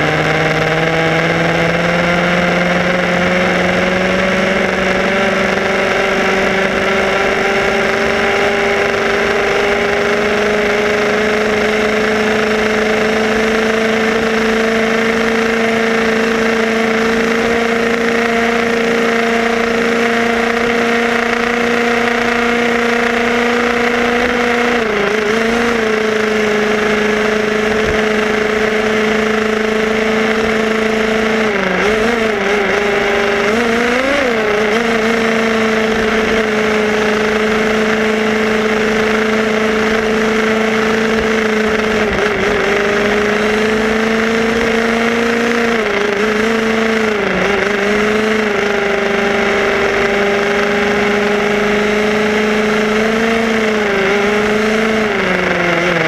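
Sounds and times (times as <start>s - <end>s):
small two-stroke engine running: 0.0s - 56.0s.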